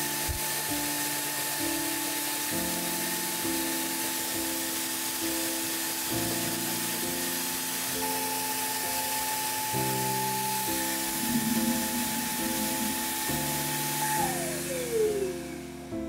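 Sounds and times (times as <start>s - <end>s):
music of held chords: 0.0s - 16.0s
steady hiss: 0.0s - 16.0s.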